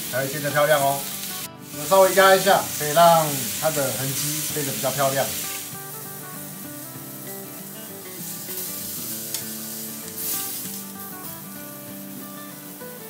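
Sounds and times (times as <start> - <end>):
chicken sizzling in grill pan: 0.0 - 13.0
soft background music: 0.0 - 13.0.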